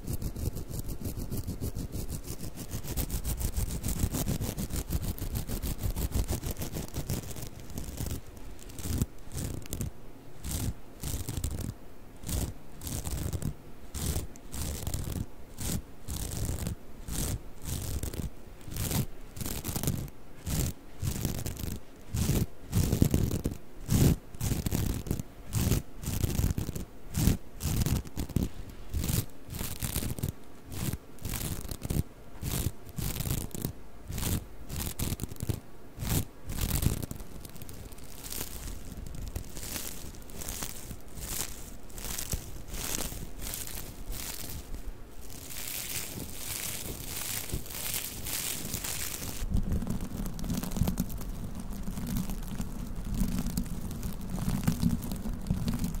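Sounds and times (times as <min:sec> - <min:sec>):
plastic mesh pads scraping: 0:02.4 - 0:56.0.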